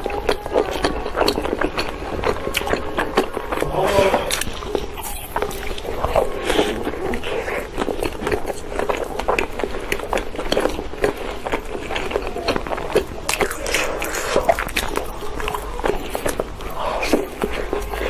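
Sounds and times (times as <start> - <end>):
person chewing crunchy food: 0.0 - 18.0
wet mouth sounds: 0.0 - 18.0.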